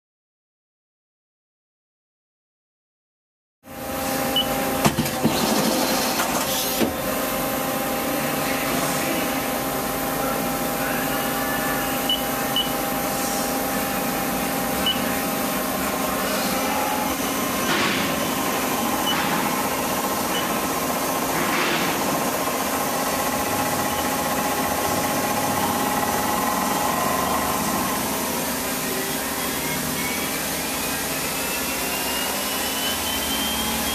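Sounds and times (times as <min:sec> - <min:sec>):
lathe humming and whining: 0:03.9 - 0:33.9.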